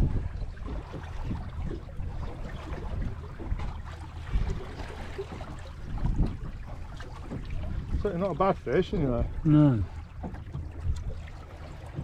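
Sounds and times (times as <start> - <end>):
water lapping against boat hull: 0.0 - 12.0
wind rumbling on microphone: 0.0 - 12.0.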